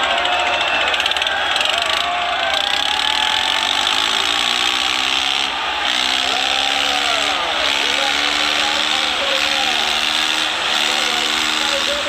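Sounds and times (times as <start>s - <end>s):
tractor engines under heavy load: 0.0s - 12.0s.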